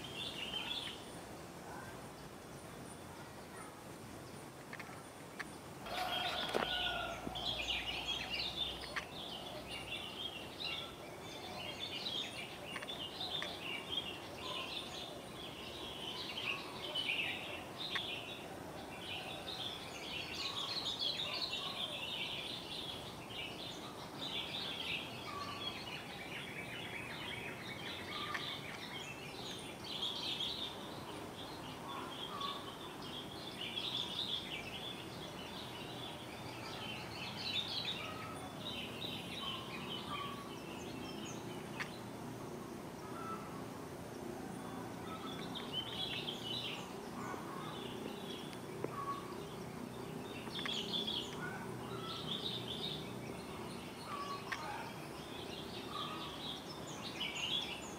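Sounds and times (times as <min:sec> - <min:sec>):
birds chirping: 0:00.0 - 0:57.9
steady outdoor hiss: 0:00.0 - 0:57.9.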